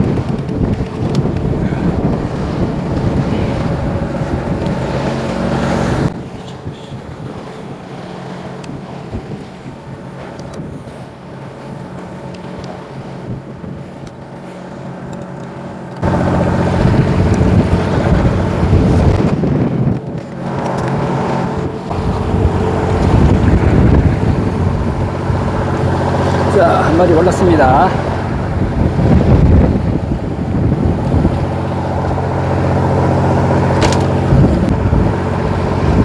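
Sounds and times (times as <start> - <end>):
boat engine hum: 0.0 - 36.0
wind noise on microphone: 0.0 - 36.0.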